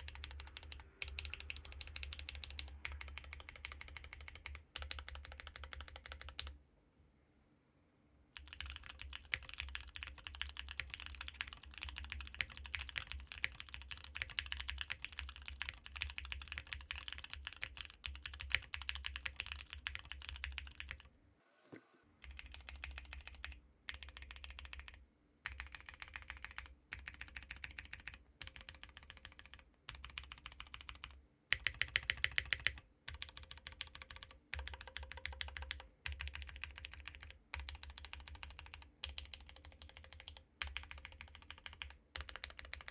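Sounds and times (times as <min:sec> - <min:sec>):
mechanical keyboard typing: 0:00.0 - 0:06.6, 0:08.4 - 0:21.1, 0:22.2 - 0:42.9.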